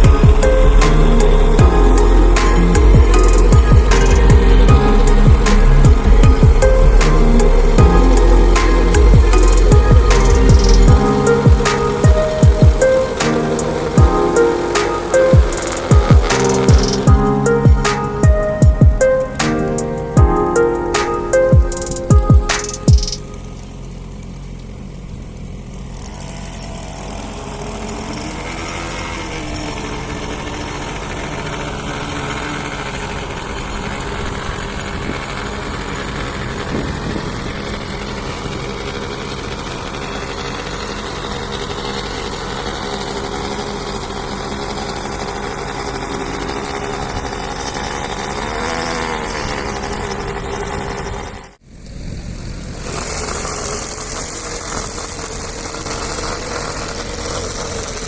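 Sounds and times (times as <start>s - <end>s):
power trowel engine running: 0.0s - 58.0s.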